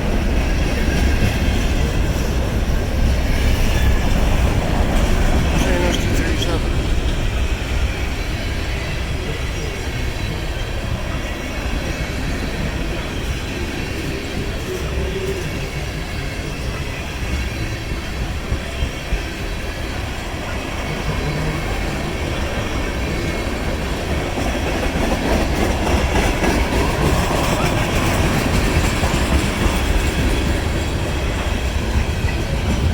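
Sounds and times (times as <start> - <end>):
freight train wheels clattering: 0.0 - 32.9.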